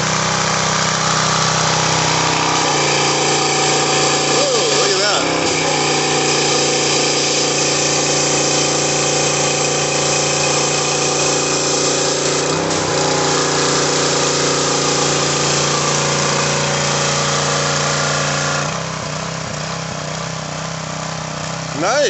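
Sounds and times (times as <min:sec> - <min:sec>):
pressure washer engine running: 0:00.0 - 0:22.0
water jet hissing on siding: 0:00.0 - 0:22.0.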